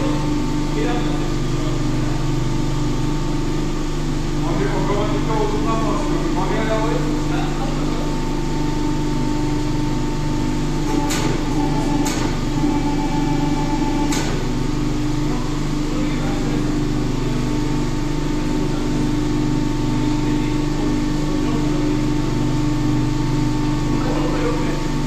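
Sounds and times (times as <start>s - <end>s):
machine motor humming: 0.0s - 25.0s.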